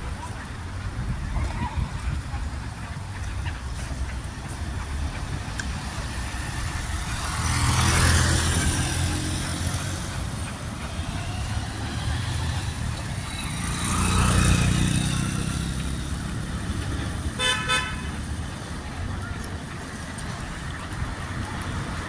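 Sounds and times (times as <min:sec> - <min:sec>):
traffic engine rumble: 0:00.0 - 0:22.0
vehicles passing: 0:00.0 - 0:22.0.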